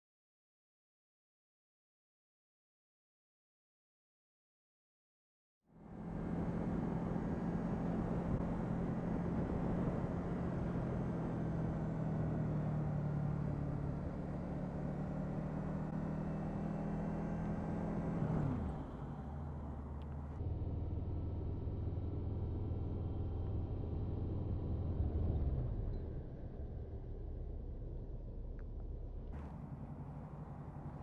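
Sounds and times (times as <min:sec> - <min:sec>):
road noise: 0:05.8 - 0:31.0.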